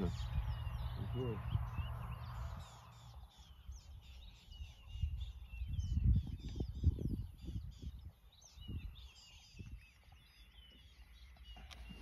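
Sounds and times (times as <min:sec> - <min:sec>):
wild birds chirping: 0:00.0 - 0:12.0.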